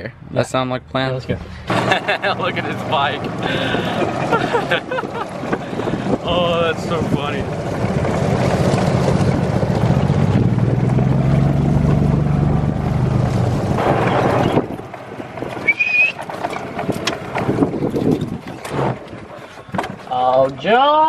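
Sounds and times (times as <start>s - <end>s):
golf cart engine hum: 1.5s - 21.0s.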